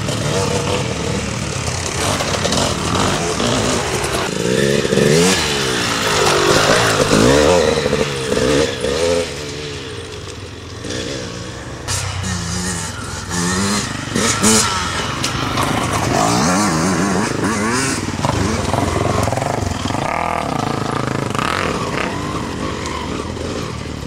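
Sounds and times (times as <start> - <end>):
dirt bike engines revving past: 0.0 - 24.0.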